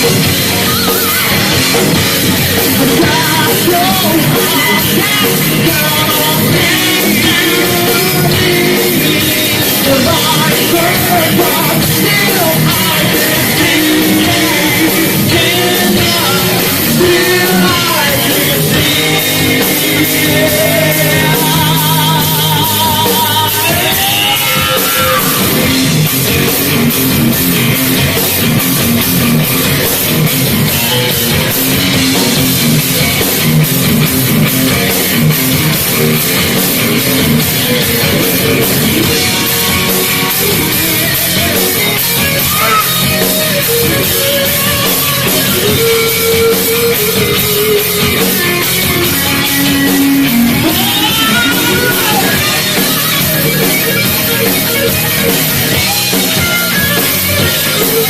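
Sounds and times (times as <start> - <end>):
electric guitars: 0.0 - 58.0
pounding drum kit: 0.0 - 58.0.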